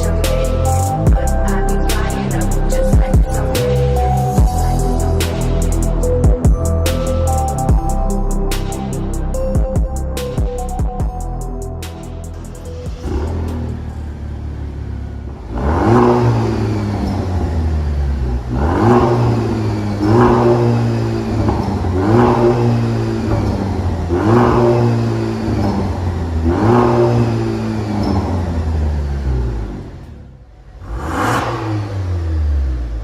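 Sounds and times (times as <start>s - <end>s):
car engine idling: 0.0s - 33.0s
engine throttle blips: 0.0s - 33.0s.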